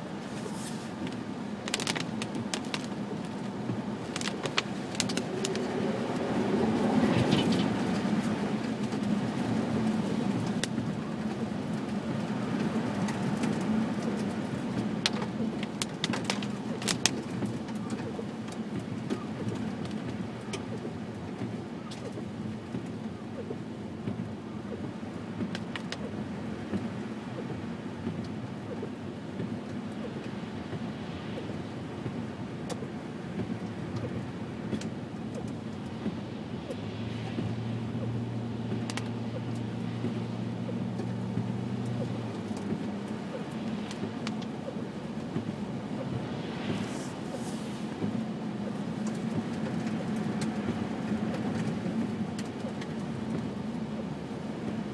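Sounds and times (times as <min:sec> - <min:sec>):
car engine: 0:00.0 - 0:54.9
tyres on slushy road: 0:00.0 - 0:54.9.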